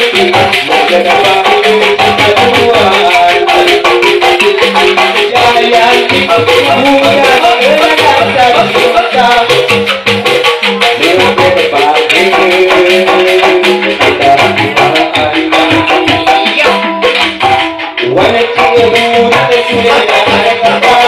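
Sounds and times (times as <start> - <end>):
pitched melody line: 0.0 - 21.0.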